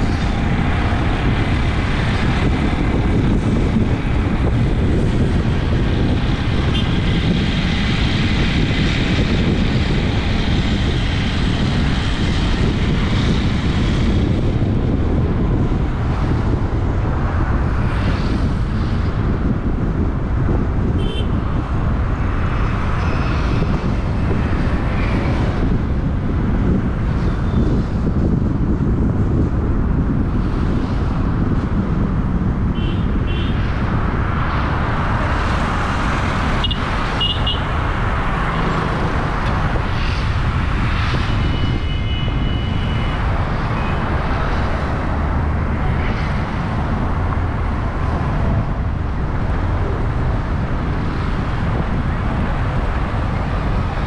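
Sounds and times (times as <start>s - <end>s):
car driving in traffic: 0.0s - 54.0s.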